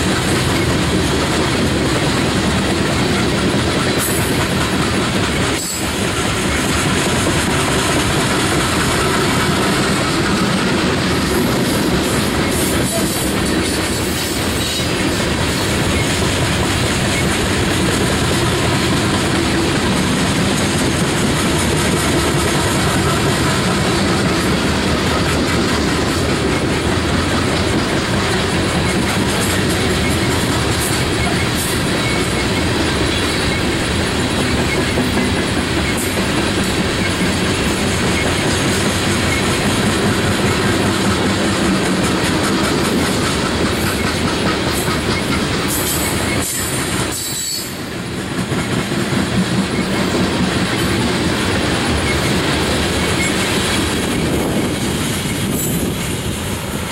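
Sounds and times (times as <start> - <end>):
clickety-clack over rail joints: 0.0 - 56.9
train wheels rumbling on rails: 0.0 - 56.9.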